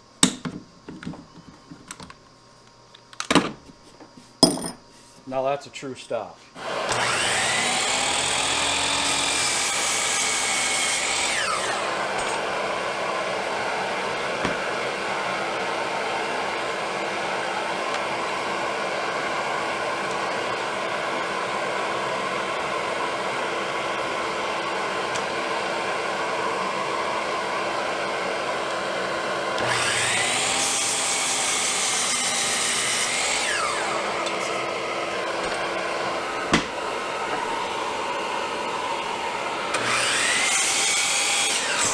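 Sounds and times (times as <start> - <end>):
power tool motor whine: 6.6 - 41.9.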